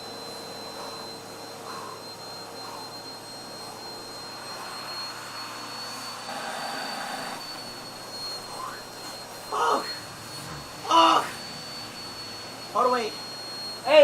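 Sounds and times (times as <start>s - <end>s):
vacuum cleaner motor whining: 0.0s - 14.0s.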